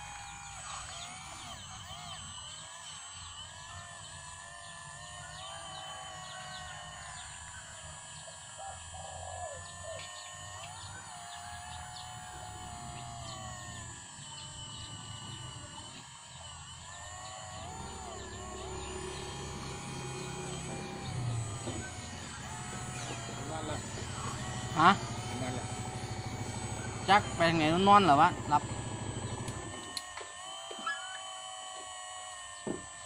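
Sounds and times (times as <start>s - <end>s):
birds chirping: 0.0s - 32.8s
hydraulic pump and motors whining: 0.0s - 33.0s.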